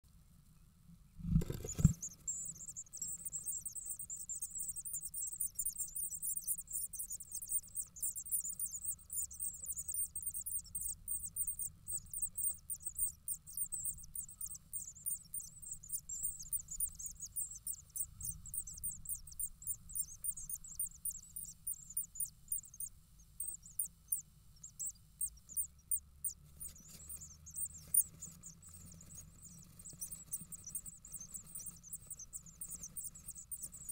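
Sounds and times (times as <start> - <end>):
nestlings cheeping: 1.4 - 33.9.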